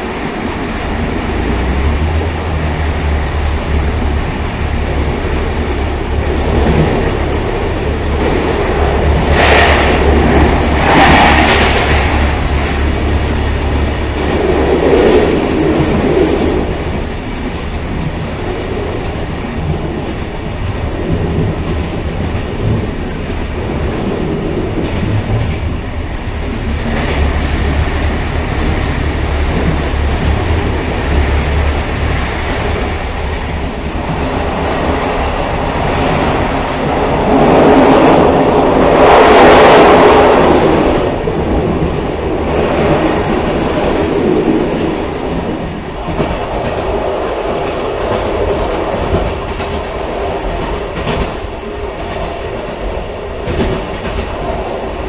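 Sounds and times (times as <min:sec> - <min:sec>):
train running on rails: 0:00.0 - 0:55.0.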